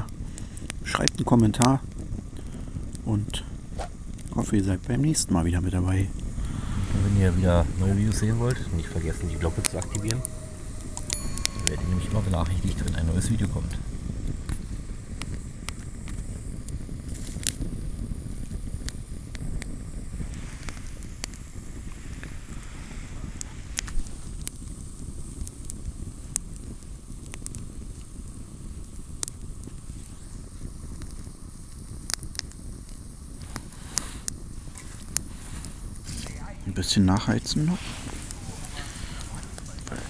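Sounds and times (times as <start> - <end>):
campfire crackling and popping: 0.0 - 40.0
low rumble of fire: 0.0 - 40.0.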